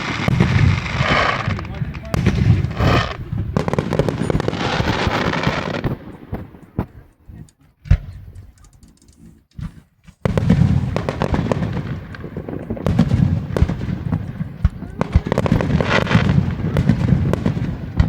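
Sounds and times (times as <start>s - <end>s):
firework bangs: 0.0s - 7.1s, 9.6s - 18.0s
fireworks crackling: 0.0s - 18.0s.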